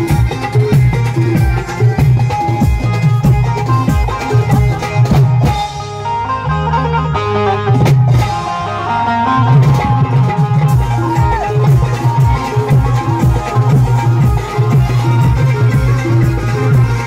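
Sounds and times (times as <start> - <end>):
drums and percussion: 0.0 - 17.0
electronic keyboard melody: 0.0 - 17.0.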